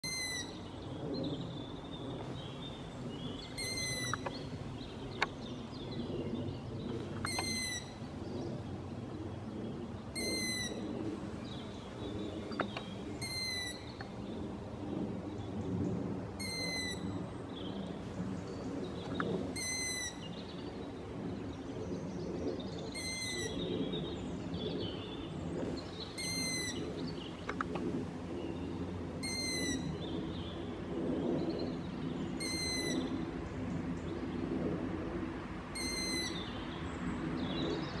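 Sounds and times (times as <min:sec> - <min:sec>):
owl fledglings begging calls: 0:00.0 - 0:08.8, 0:09.4 - 0:14.3, 0:16.4 - 0:21.7, 0:22.6 - 0:30.7, 0:31.6 - 0:33.4, 0:35.7 - 0:38.0
low background rumble: 0:00.0 - 0:38.0.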